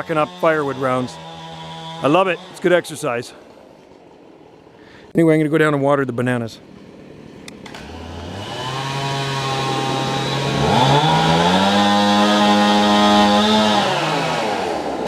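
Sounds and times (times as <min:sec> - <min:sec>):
chainsaw revving: 0:00.0 - 0:03.8, 0:06.6 - 0:15.0.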